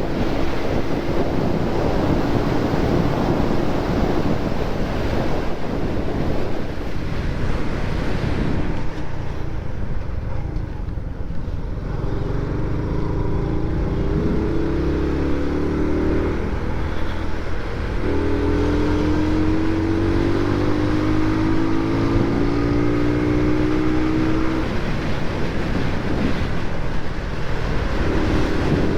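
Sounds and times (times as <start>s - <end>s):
motorcycle engine accelerating: 0.0s - 28.9s
wind rush on microphone: 0.0s - 28.9s.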